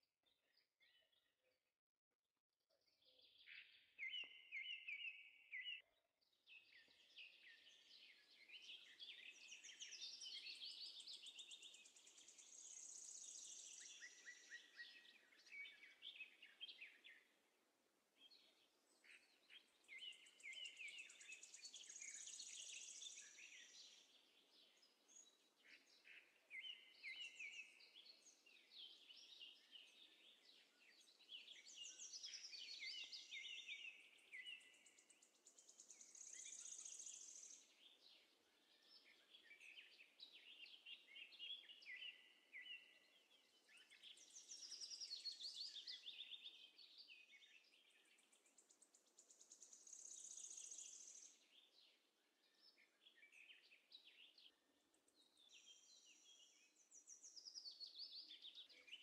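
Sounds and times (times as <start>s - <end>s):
small birds chirping and singing: 0.0s - 1.6s, 2.7s - 59.0s.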